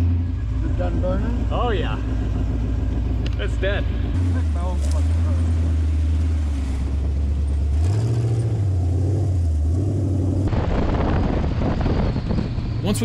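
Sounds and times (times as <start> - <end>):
buggy engine droning: 0.0 - 13.0.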